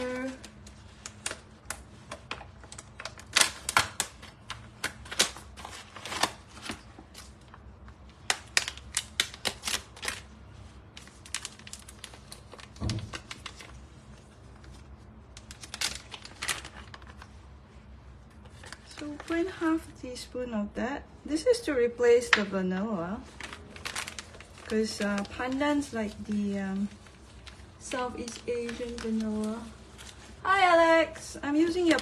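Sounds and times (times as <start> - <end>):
plastic packaging crinkling: 0.0 - 19.8, 23.2 - 32.0.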